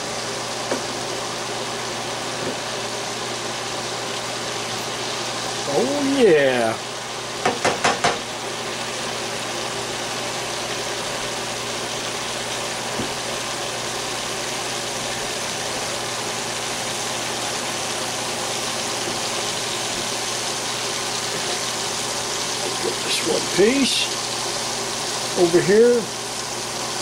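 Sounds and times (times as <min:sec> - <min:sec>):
chicken frying in hot oil: 0:00.0 - 0:27.0.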